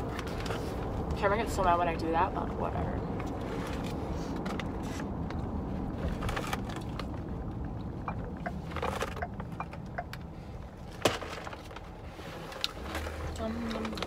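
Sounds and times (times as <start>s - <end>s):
car cabin road and engine noise: 0.0s - 14.0s.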